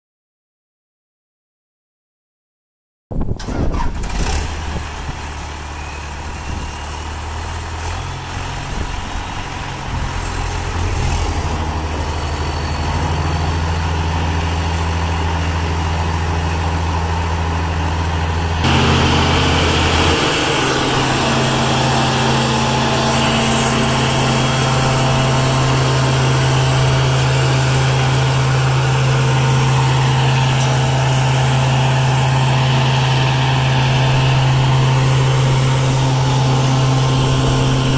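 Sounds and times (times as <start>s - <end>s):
diesel engine idling: 3.4s - 37.9s.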